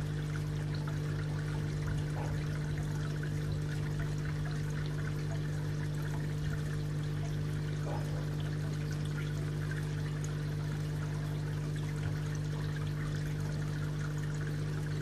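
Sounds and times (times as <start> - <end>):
steady low hum: 0.0 - 15.0
water trickling into pond: 0.0 - 15.0.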